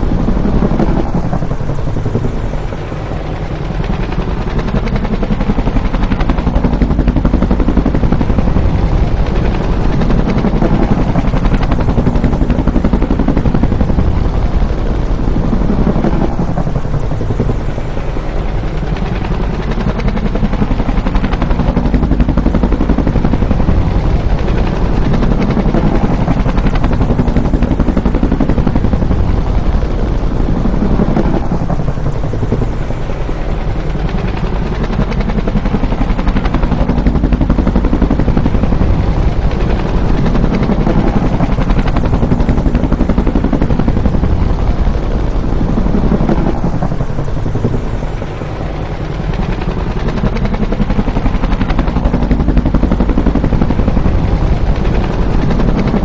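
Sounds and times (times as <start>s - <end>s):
helicopter rotor beating: 0.0s - 56.0s.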